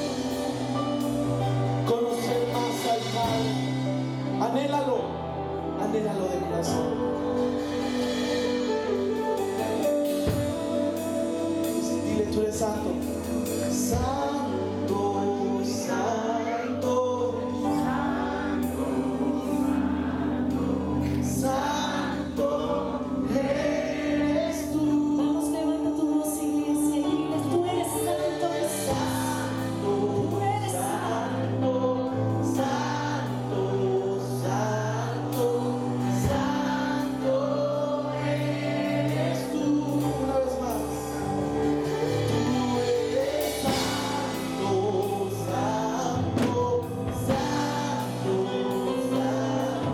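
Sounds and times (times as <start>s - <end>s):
drums: 0.0s - 49.9s
electric bass: 0.0s - 49.9s
keyboard: 0.0s - 49.9s
man singing lead: 0.0s - 49.9s
woman singing backing: 7.0s - 49.9s.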